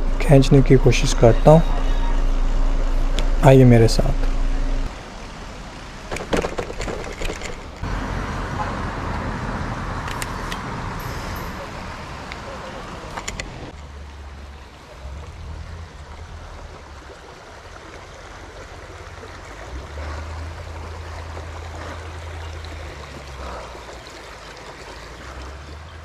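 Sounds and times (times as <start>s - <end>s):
low rumble: 0.0s - 4.9s, 7.8s - 24.0s
stream trickling over rocks: 4.8s - 26.0s.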